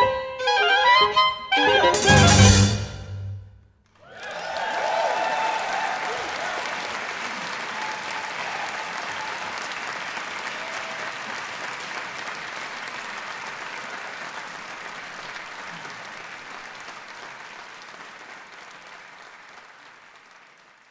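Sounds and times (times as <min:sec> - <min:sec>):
audience applauding: 0:03.9 - 0:20.9.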